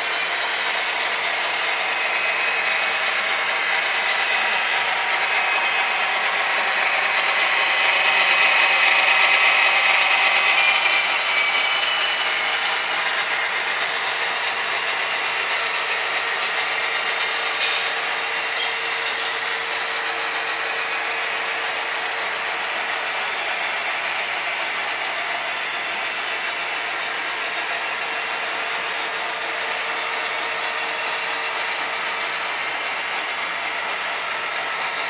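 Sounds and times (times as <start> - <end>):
model train motor hum and whine: 0.0 - 35.0.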